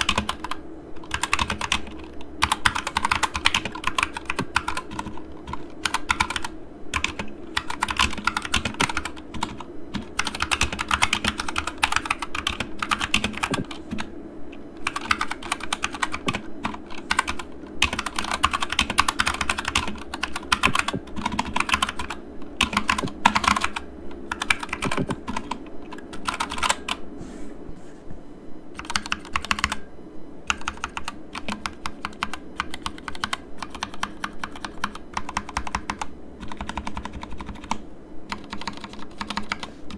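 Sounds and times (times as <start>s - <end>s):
mechanical keyboard typing: 0.0s - 14.1s, 14.8s - 27.0s, 28.8s - 29.9s, 30.5s - 39.9s.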